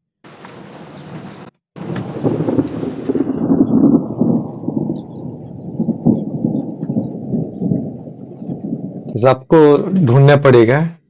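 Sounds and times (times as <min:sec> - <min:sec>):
thunder rolling rumble: 0:00.3 - 0:10.8.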